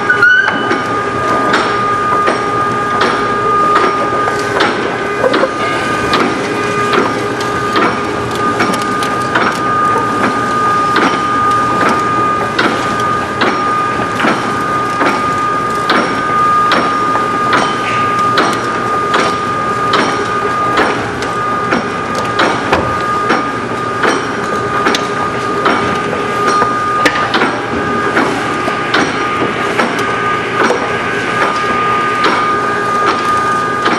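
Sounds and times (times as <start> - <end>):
conveyor clacks and knocks: 0.0 - 33.9
conveyor motor whine: 0.0 - 33.9.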